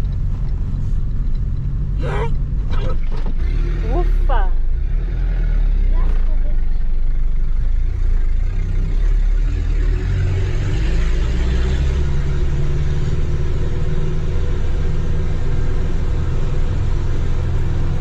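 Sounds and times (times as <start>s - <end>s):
tyre and road noise: 0.0s - 18.0s
vehicle engine running: 0.0s - 18.0s.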